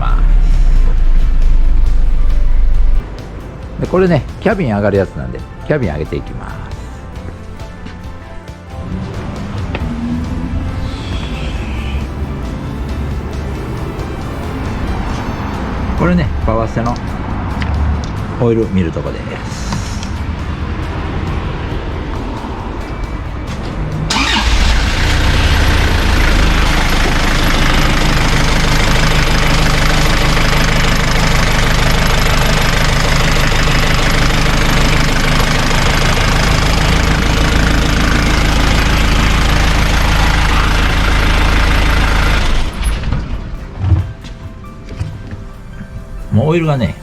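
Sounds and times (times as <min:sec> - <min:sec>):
diesel engine starting and running: 0:00.0 - 0:47.0.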